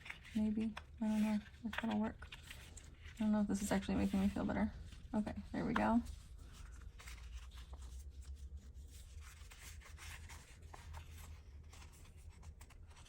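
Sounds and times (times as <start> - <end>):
low steady hum: 0.0 - 13.0
paper rustling and folding: 0.0 - 13.0.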